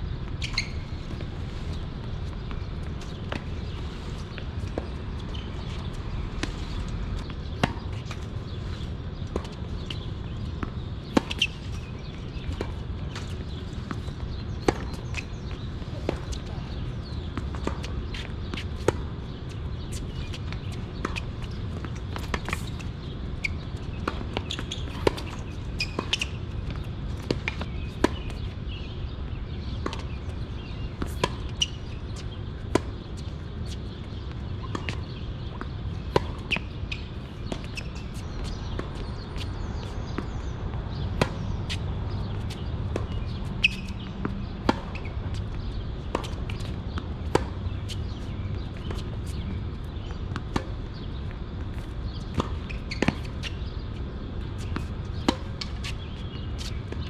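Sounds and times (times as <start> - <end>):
tennis balls struck and bouncing: 9.3 - 57.0.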